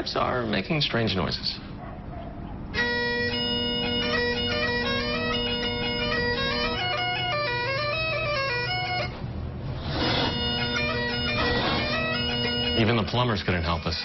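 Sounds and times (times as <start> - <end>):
bagpipes playing: 2.7 - 14.0.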